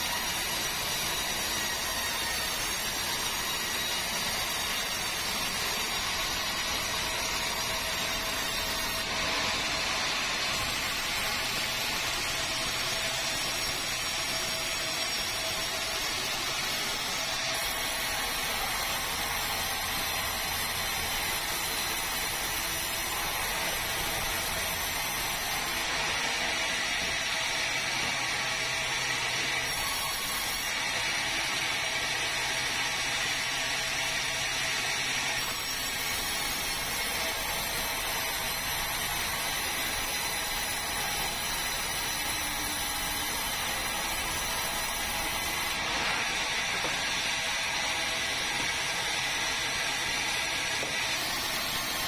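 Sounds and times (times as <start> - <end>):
band saw cutting log: 0.0 - 52.0.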